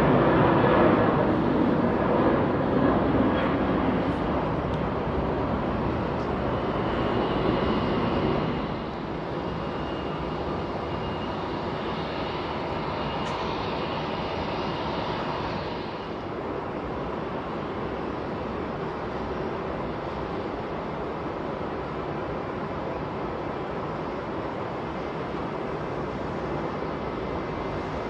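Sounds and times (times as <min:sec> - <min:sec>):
jet taking off: 0:00.0 - 0:28.0
jet taxiing with high whine: 0:00.0 - 0:28.0.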